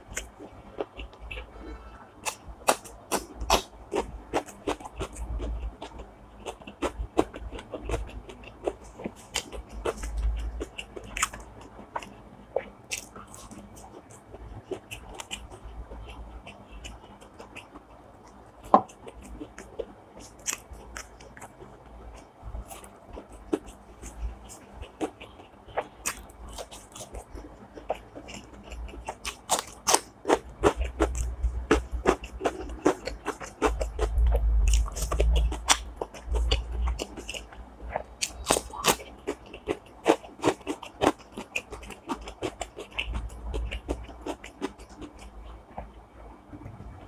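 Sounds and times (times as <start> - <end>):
chewing and crunching food: 0.0 - 46.7.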